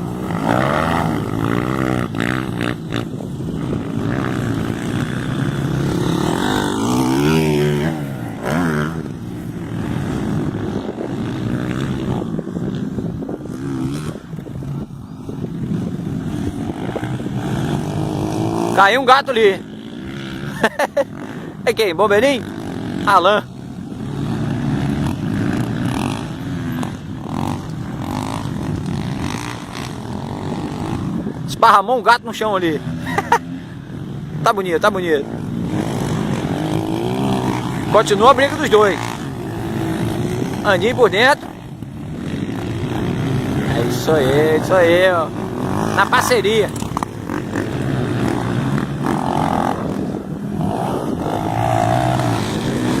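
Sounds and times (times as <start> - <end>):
motocross bike engines: 0.0 - 53.0.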